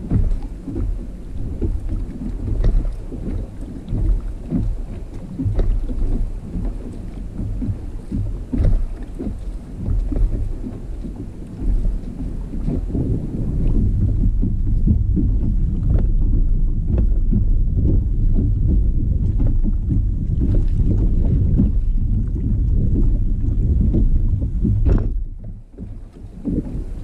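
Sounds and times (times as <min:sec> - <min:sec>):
waves slapping kayak hull: 0:00.0 - 0:27.0
wind buffeting microphone: 0:00.0 - 0:27.0.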